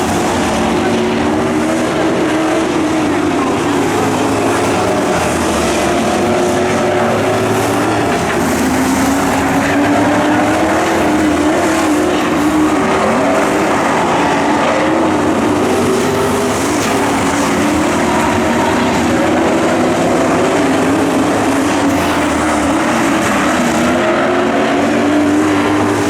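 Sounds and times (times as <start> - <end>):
race truck engines running hard: 0.0 - 26.0.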